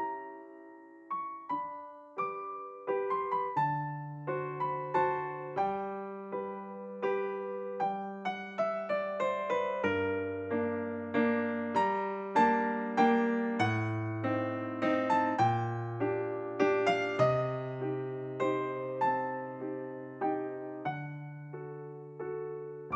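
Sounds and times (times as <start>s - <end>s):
lively solo piano music: 0.0s - 22.9s.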